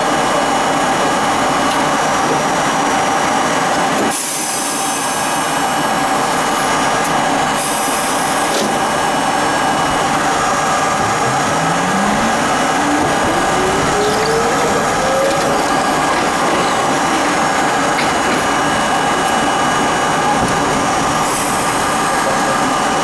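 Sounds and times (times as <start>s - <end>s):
subway train motor whine: 0.0s - 23.0s
train running rumble: 0.0s - 23.0s.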